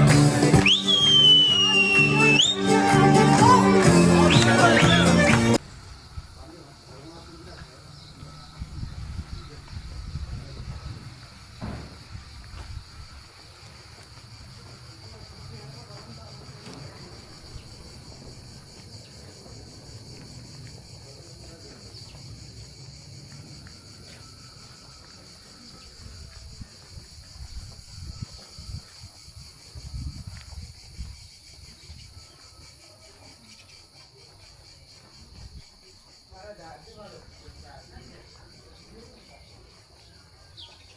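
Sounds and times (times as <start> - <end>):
crickets chirring: 0.6 - 2.8, 4.2 - 40.9.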